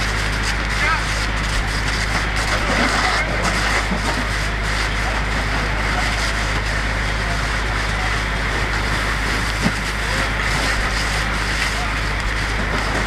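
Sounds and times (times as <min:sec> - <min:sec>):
faint fire crackles: 0:00.0 - 0:13.0
fire rushing noise: 0:00.0 - 0:13.0.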